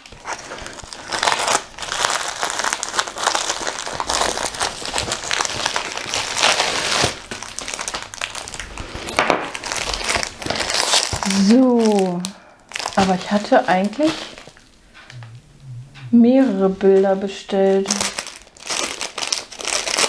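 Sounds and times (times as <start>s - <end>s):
plastic wrapping crinkling: 0.0s - 15.3s, 17.0s - 20.0s.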